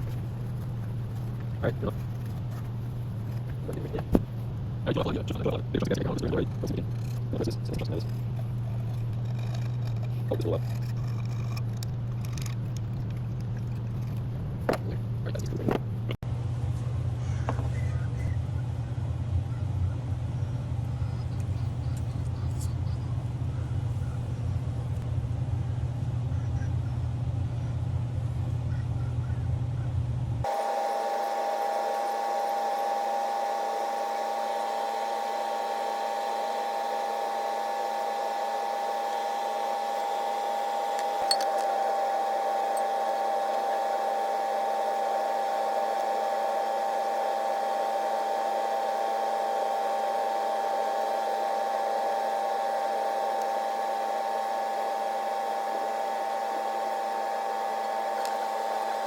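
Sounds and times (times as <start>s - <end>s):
high-pitched mechanical whine: 0.0s - 59.0s.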